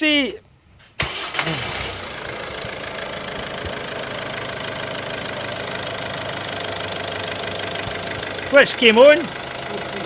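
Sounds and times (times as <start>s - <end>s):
diesel engine idling: 1.0s - 10.0s.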